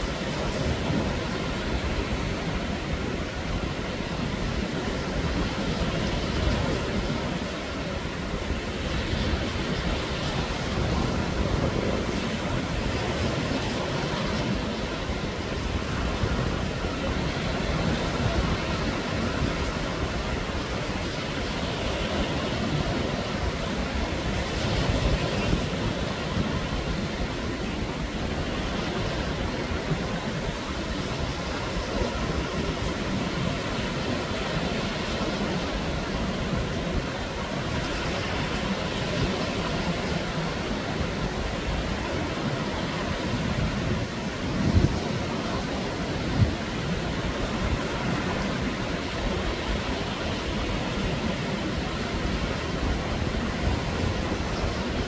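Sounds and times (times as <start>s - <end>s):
waves breaking on sandy shore: 0.0s - 55.0s
wind rumbling on microphone: 0.0s - 55.0s.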